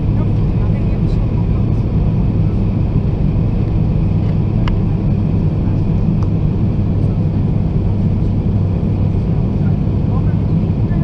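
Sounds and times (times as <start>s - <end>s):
airplane engines rumbling: 0.0s - 11.0s
rushing air in cabin: 0.0s - 11.0s.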